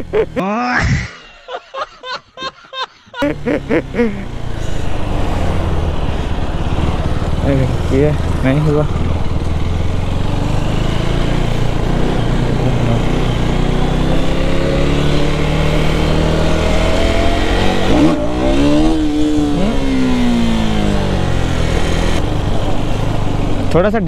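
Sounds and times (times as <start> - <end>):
motorcycle engine revving: 3.2 - 24.0.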